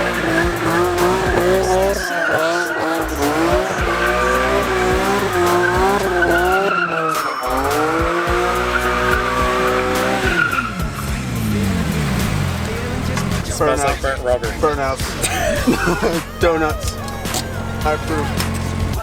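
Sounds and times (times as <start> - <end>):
car engine revving: 0.0 - 19.0
tyres squealing: 0.0 - 19.0.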